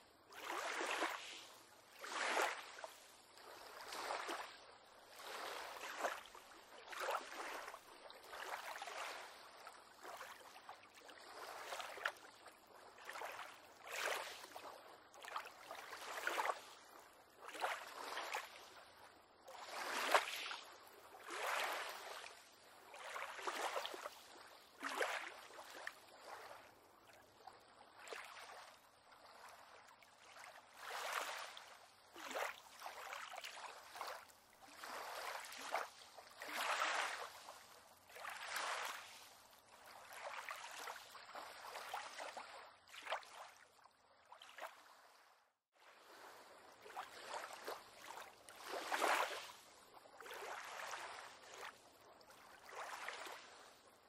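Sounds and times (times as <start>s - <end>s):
small waves lapping against a pier: 0.0s - 54.0s.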